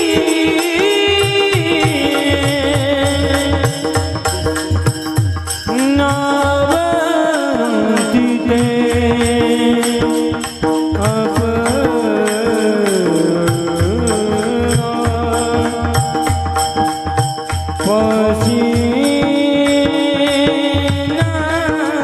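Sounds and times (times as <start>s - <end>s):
man singing devotional song: 0.0s - 22.0s
small hand cymbals: 0.0s - 22.0s
steady drum beat: 0.0s - 22.0s.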